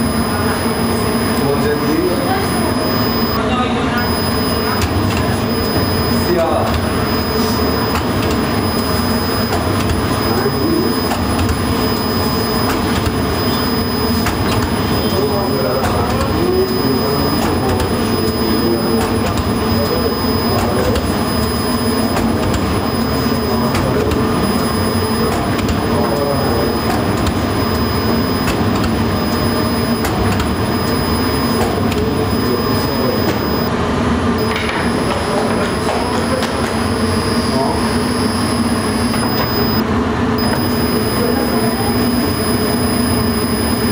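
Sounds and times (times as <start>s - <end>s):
thin high whine: 0.0s - 33.7s, 34.4s - 43.9s
machinery mechanical din: 4.0s - 39.8s.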